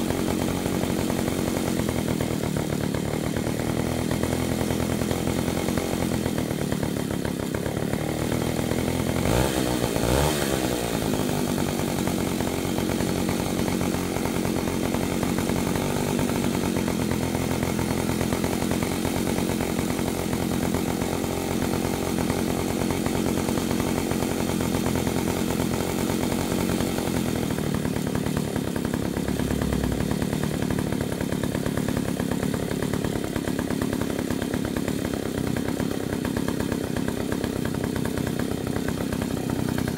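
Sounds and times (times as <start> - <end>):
chainsaw engine idling: 0.0 - 39.9.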